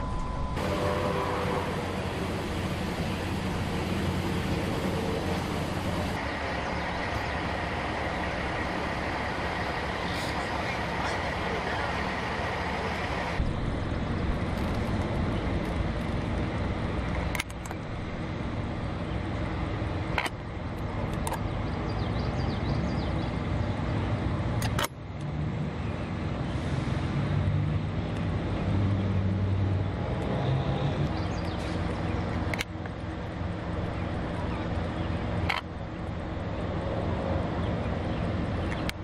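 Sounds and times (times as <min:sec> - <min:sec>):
vehicle engines and traffic drone: 0:00.0 - 0:39.0.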